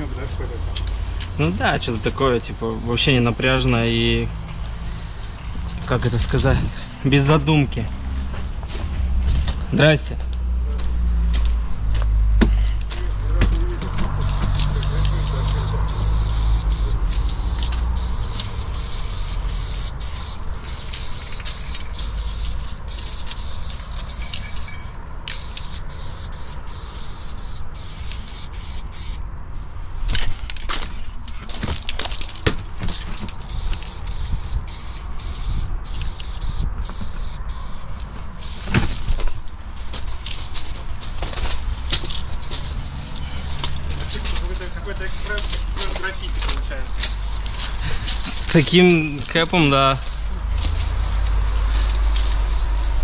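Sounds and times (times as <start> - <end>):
spray paint can hissing: 0.0 - 7.3, 12.0 - 29.2, 31.5 - 53.0.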